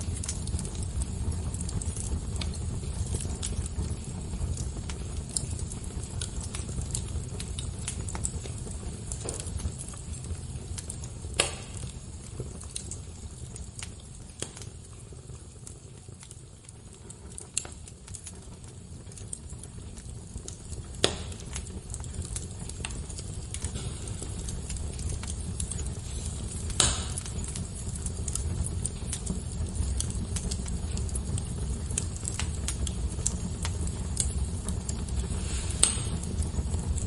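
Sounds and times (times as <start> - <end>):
fire crackling: 0.0 - 37.0.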